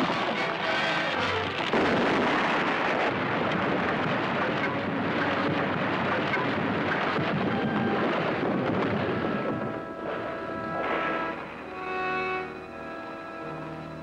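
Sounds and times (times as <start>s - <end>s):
debris raining down: 0.0s - 11.4s
faint music: 0.0s - 14.0s
low rumble: 0.0s - 14.0s.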